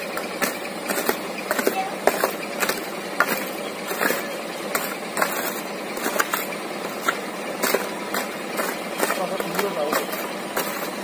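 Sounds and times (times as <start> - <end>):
shovel scraping dirt and stones: 0.0 - 11.0
steady engine noise: 0.0 - 11.0.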